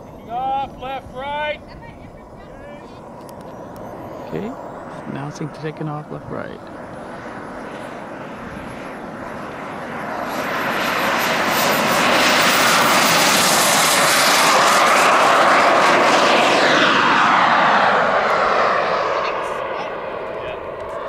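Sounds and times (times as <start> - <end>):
jet engine whine and roar: 0.0 - 21.0.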